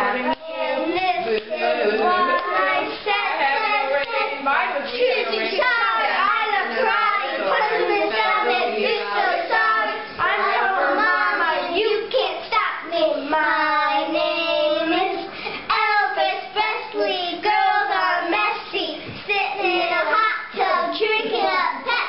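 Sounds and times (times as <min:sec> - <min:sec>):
boys singing loudly: 0:00.0 - 0:22.0.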